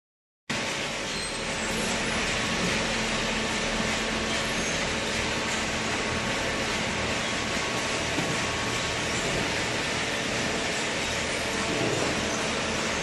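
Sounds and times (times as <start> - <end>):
baler machine humming: 0.8 - 13.0.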